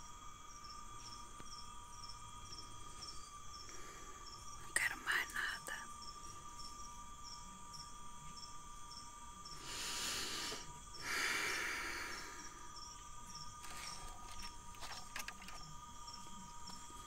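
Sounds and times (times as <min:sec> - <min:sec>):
cicadas and insects chorus: 0:00.0 - 0:17.0.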